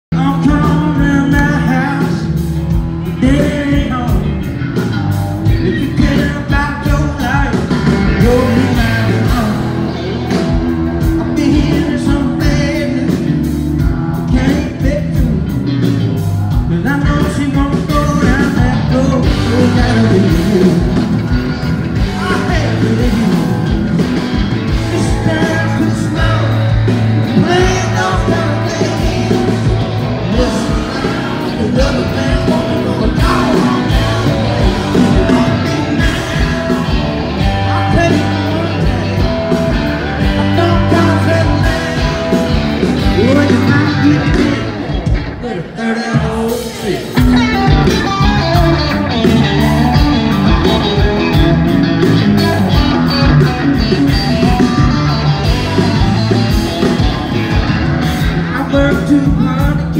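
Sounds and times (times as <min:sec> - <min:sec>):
live band playing: 0:00.1 - 0:59.9
person singing: 0:05.4 - 0:15.6, 0:16.6 - 0:21.4, 0:22.0 - 0:23.9, 0:24.6 - 0:59.9.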